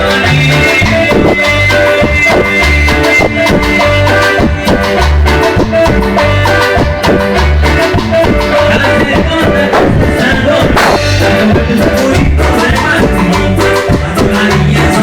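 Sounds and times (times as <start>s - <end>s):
latin dance music on keyboard: 0.0s - 15.0s.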